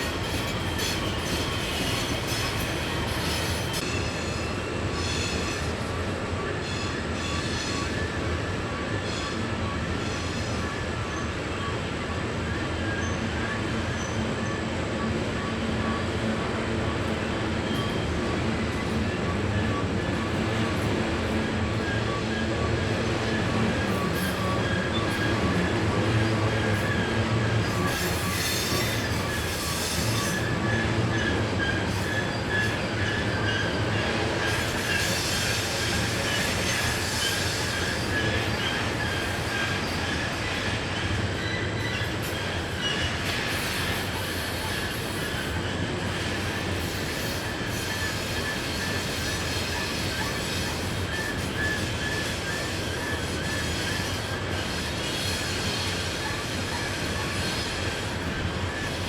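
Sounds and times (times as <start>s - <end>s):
freight train rumbling: 0.0s - 59.0s
wheel flanges squealing on rail: 0.0s - 59.0s.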